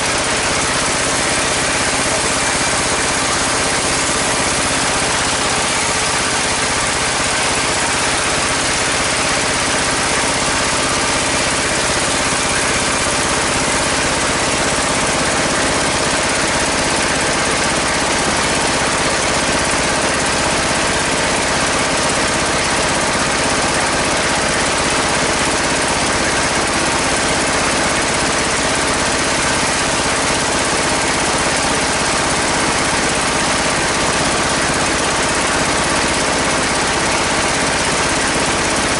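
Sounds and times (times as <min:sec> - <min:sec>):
sawmill band saw running: 0:00.0 - 0:38.9.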